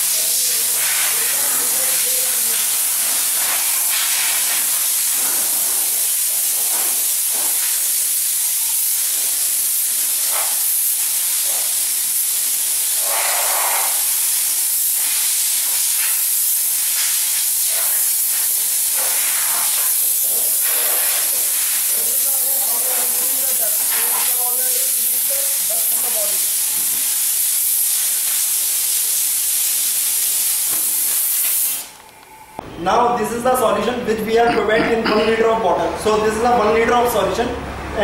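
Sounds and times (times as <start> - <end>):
air blow gun hissing: 0.0 - 32.0.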